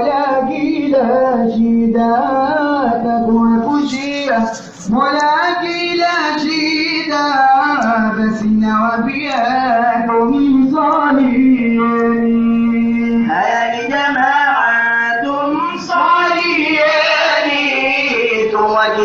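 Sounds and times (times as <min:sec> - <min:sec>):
person singing devotional song: 0:00.0 - 0:19.0.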